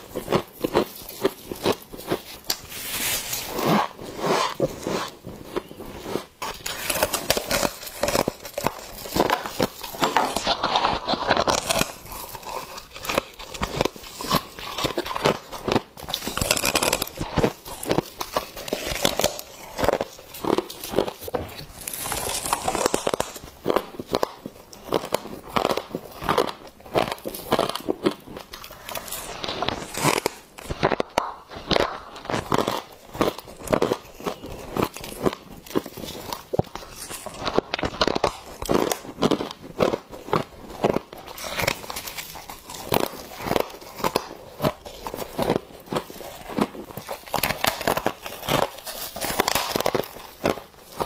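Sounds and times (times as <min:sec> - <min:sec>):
chewing crunchy frost: 0:00.0 - 0:51.0
frost squeaking and crumpling: 0:00.6 - 0:51.0.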